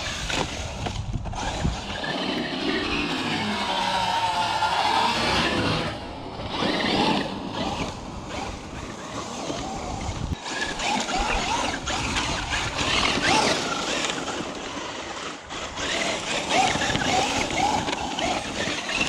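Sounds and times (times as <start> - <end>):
rc truck electric motor whine: 0.0 - 19.0
tyres on gravel: 0.0 - 19.0.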